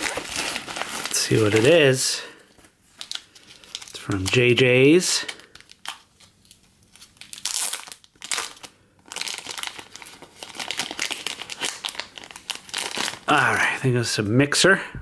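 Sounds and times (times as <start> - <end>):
plastic sleeve crinkling: 0.0 - 13.5.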